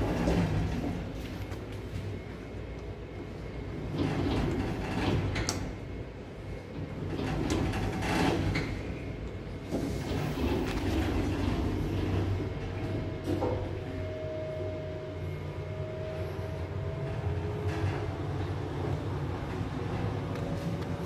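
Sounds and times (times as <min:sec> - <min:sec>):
elevator doors sliding: 0:00.0 - 0:21.0
steady low hum: 0:00.0 - 0:21.0.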